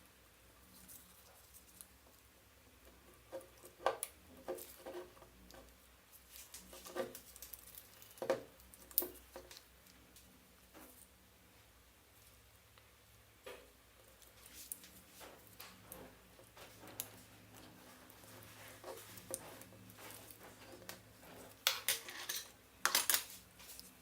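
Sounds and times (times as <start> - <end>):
small parts knocking and scraping: 0.7 - 11.1, 13.4 - 24.0.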